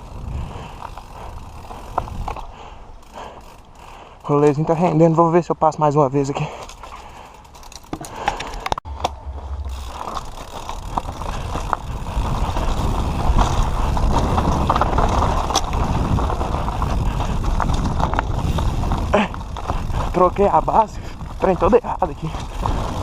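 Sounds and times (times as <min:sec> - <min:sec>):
wind noise: 0:00.0 - 0:03.4, 0:06.8 - 0:23.0
bike clicks and rattles: 0:00.0 - 0:23.0
tyres rumbling over rough ground: 0:00.0 - 0:23.0.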